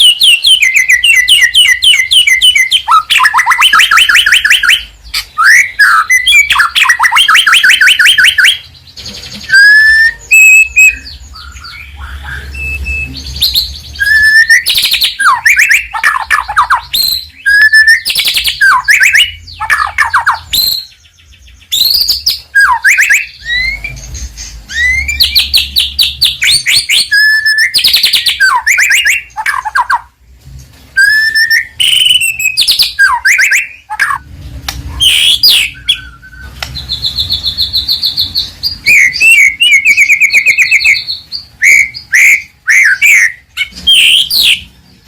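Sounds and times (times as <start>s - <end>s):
songbird singing with whistles and trills: 0.0s - 30.2s, 30.9s - 45.0s.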